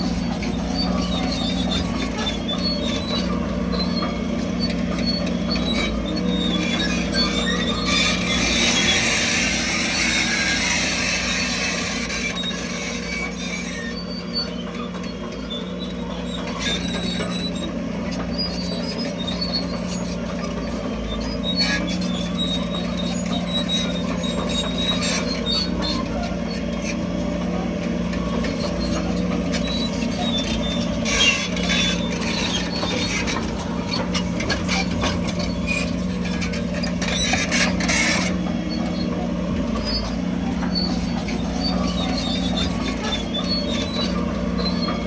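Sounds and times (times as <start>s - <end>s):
heavy diesel engine running: 0.0s - 45.0s
high-pitched squeaking: 0.0s - 45.0s.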